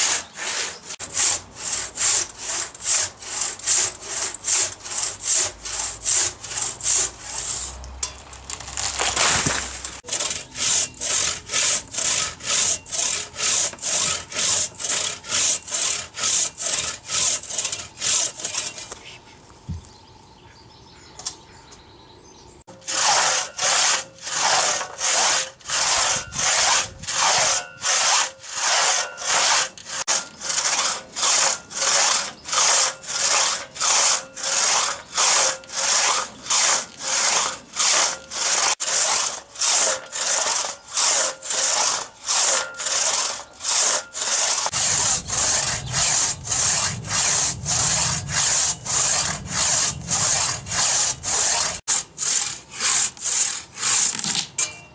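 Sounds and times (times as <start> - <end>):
hand saw cutting log: 0.0 - 19.2, 22.7 - 54.7.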